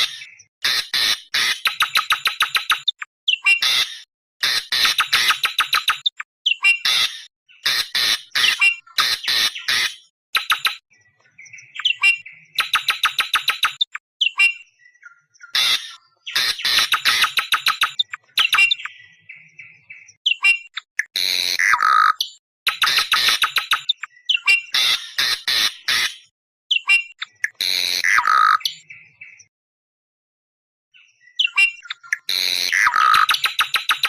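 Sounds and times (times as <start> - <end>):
harsh bird chattering: 0.0 - 10.8, 11.8 - 14.5, 15.5 - 19.0, 20.3 - 28.8, 31.4 - 34.0.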